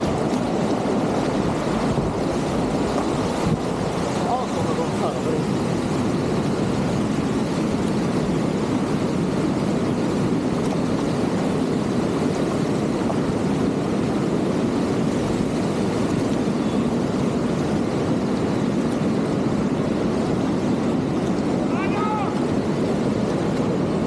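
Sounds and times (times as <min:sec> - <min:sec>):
river rapids rushing: 0:00.0 - 0:23.9.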